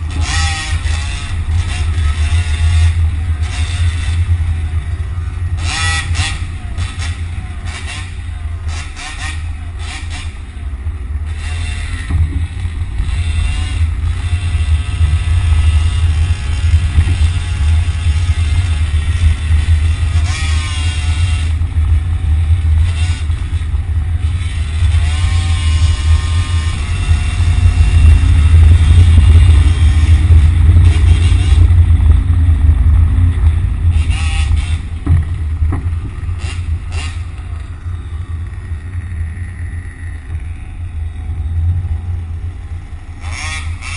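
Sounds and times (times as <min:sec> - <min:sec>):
heavy low rumble: 0:00.0 - 0:43.9
road traffic engines: 0:00.0 - 0:43.9.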